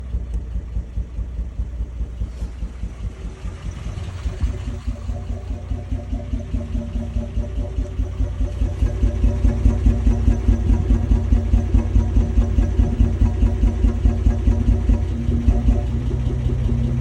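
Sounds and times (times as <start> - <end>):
engine idling roughly: 0.0 - 17.0
steady tone: 1.6 - 17.0.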